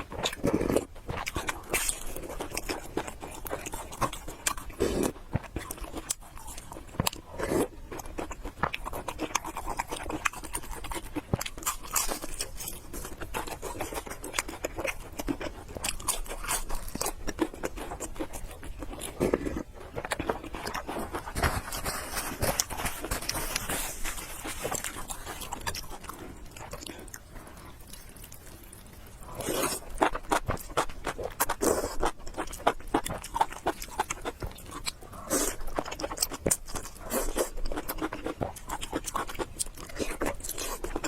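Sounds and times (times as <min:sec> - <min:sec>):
person chewing and biting food: 0:00.0 - 0:41.0.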